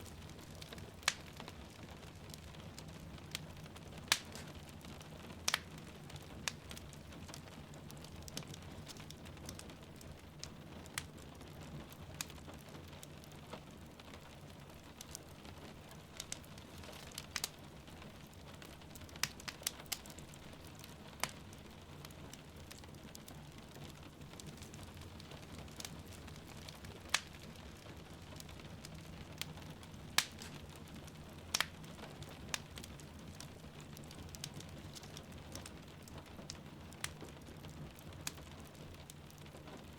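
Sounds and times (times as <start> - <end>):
rain pattering: 0.0 - 39.9
wood fire crackling and popping: 0.0 - 39.9.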